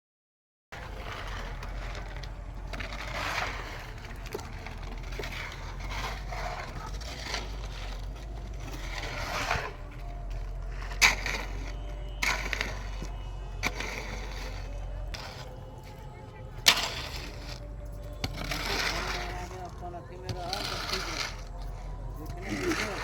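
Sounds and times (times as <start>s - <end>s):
low machine hum: 0.8s - 23.0s
rough scraping: 0.8s - 23.0s.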